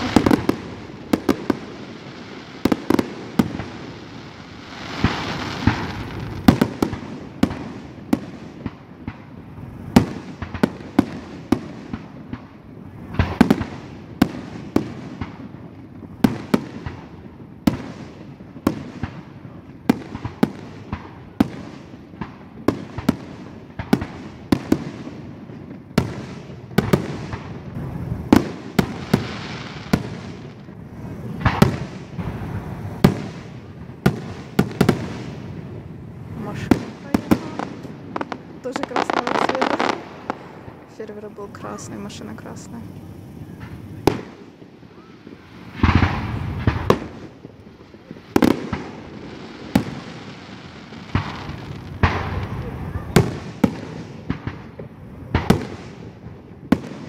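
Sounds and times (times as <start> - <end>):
fireworks bursting with booms: 0.0 - 57.0.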